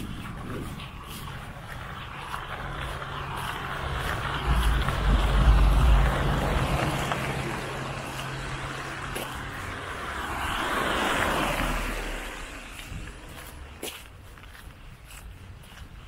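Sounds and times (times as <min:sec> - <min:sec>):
truck engine hum: 0:00.0 - 0:15.8
tyres hissing on wet road: 0:01.2 - 0:14.2.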